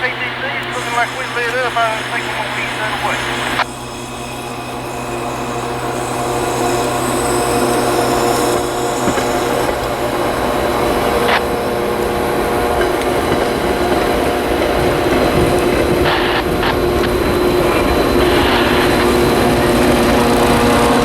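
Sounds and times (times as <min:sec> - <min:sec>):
diesel locomotive hum: 0:00.0 - 0:21.0.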